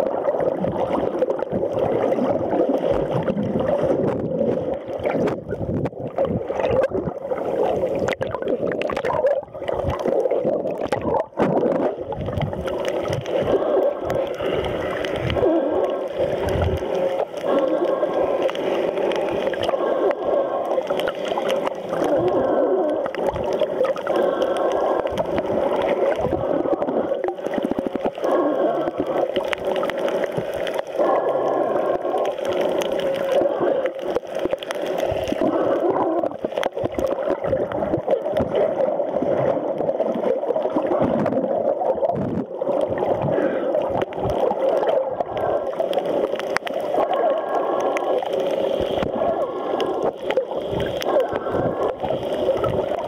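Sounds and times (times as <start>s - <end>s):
muffled underwater gurgling: 0.0s - 53.0s.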